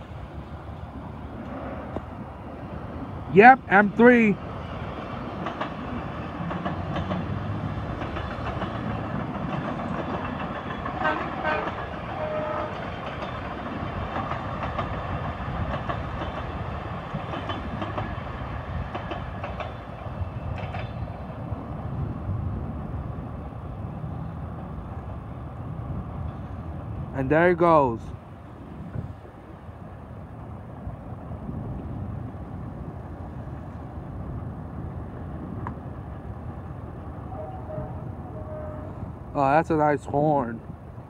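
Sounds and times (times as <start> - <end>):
distant train wheels rumbling: 0.0 - 41.0.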